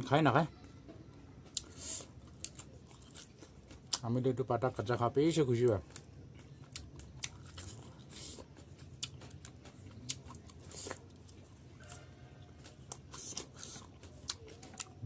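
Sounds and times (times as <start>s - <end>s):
chewing crunchy greens: 1.4s - 15.0s.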